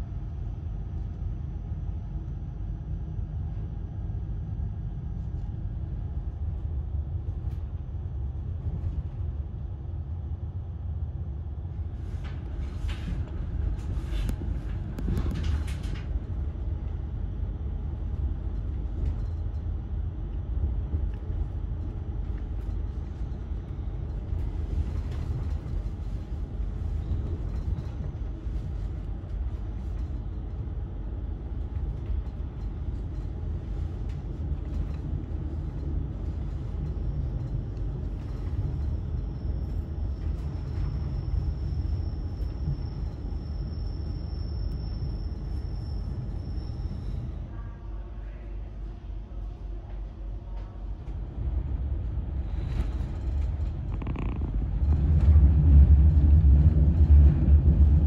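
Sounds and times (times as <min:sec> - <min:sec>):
train coach low rumble: 0:00.0 - 0:58.0.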